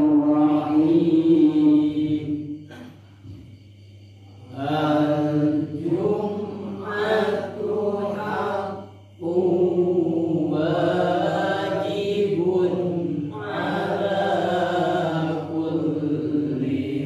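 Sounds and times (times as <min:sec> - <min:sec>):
voices chanting in unison: 0:00.0 - 0:03.5, 0:04.2 - 0:17.0.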